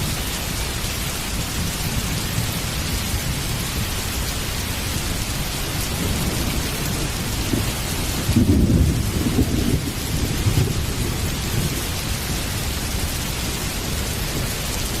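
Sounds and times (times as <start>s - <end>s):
heavy rain falling: 0.0s - 15.0s
low rumble of thunder: 1.3s - 15.0s.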